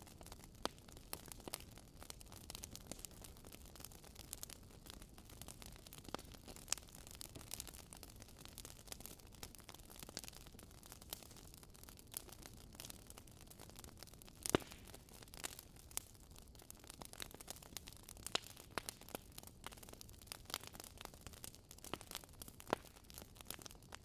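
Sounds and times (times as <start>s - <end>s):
soft hiss of fire: 0.0s - 24.0s
wood fire crackling: 0.0s - 24.0s.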